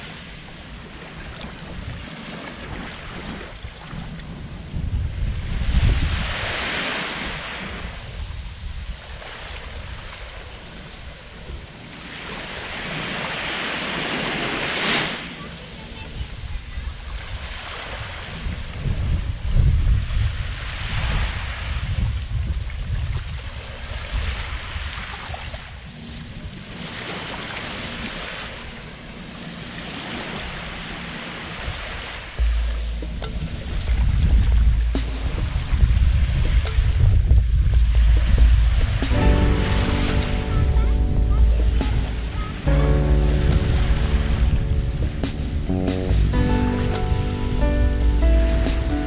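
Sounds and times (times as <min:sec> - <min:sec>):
waves washing up on beach: 0:00.0 - 0:49.0
wind rumbling on microphone: 0:00.0 - 0:49.0.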